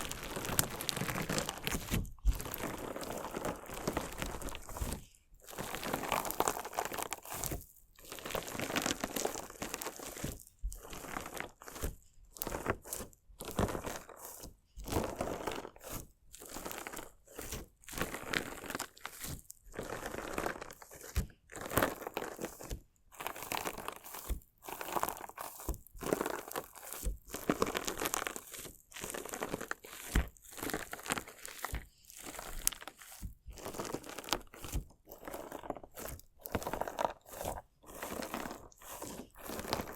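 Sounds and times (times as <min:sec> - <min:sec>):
crunchy slime crackling: 0:00.0 - 0:39.9.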